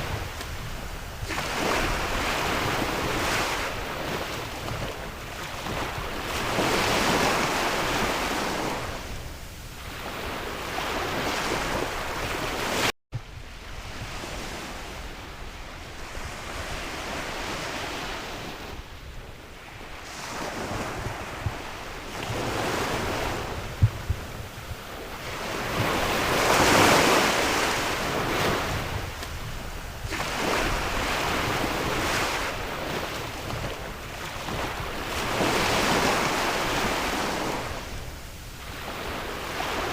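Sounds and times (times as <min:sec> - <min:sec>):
sea waves breaking: 0:00.0 - 0:12.9, 0:13.6 - 0:39.9
wind on microphone: 0:00.0 - 0:39.9.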